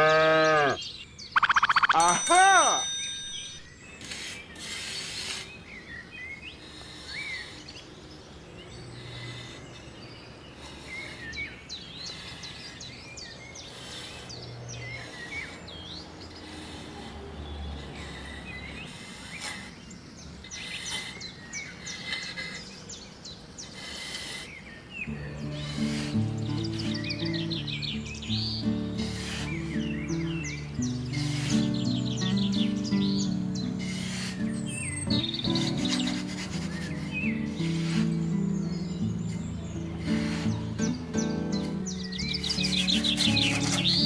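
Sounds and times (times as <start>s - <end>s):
small birds chirping: 0.0s - 44.0s
outdoor background hiss: 2.2s - 44.0s.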